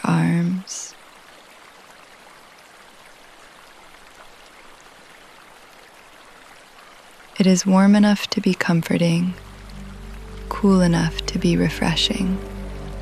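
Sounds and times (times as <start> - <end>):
steady rainfall hiss: 0.0 - 13.0.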